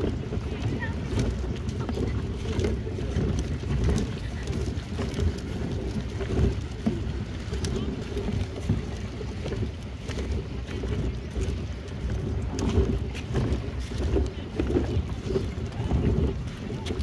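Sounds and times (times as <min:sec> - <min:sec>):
water lapping against dock: 0:00.0 - 0:17.0
wind buffeting microphone: 0:00.0 - 0:17.0.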